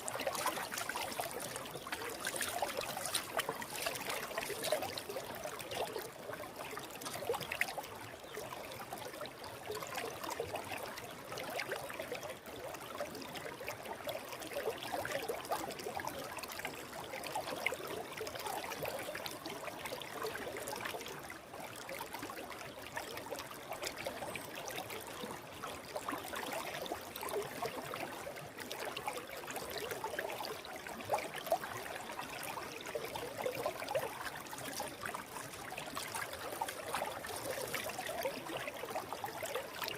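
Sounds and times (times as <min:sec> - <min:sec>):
stream water burbling over rocks: 0:00.0 - 0:39.9.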